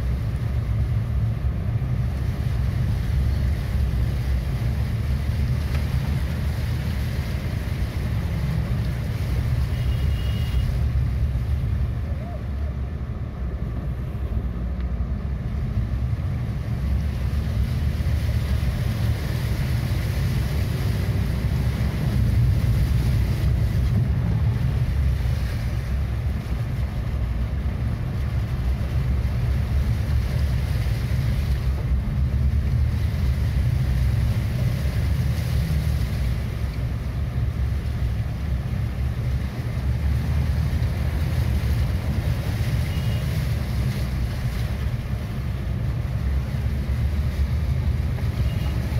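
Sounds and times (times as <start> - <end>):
car engine and road rumble: 0.0 - 48.9
water washing from tyres: 0.0 - 48.9.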